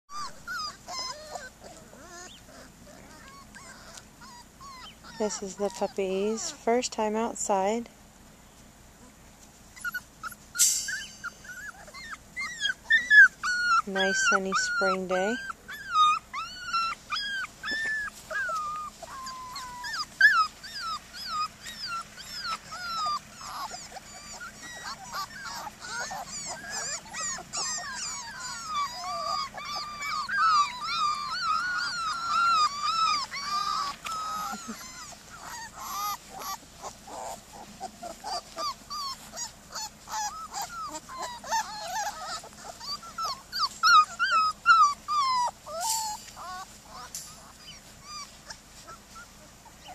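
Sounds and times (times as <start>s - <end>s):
puppy yips: 0.1s - 6.6s, 9.8s - 49.9s
puppies whining and whimpering: 0.1s - 7.8s, 9.0s - 49.9s.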